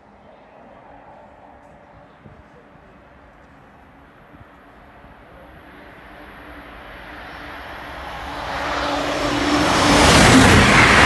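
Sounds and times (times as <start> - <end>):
high-speed train rushing: 0.0 - 11.0.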